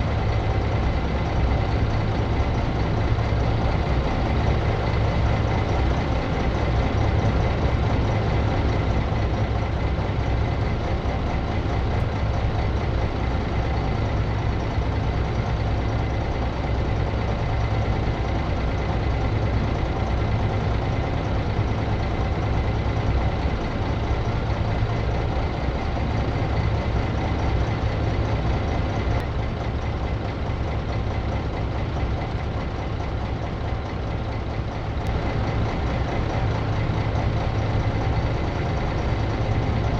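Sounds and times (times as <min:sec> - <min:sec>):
bus engine humming: 0:00.0 - 0:39.9.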